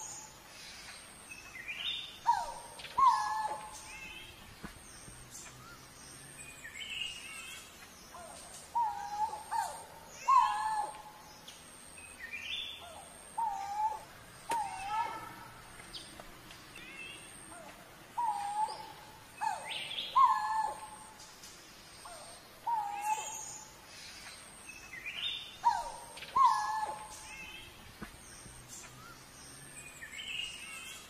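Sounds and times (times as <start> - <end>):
bird chirps: 0.0 - 31.0
ground cuckoo moaning calls: 0.0 - 31.0.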